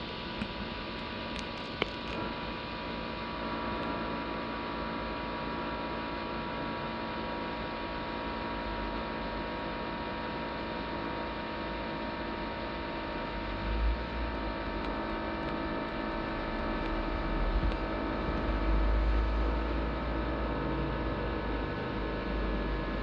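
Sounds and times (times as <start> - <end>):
laptop fan humming: 0.0 - 23.0.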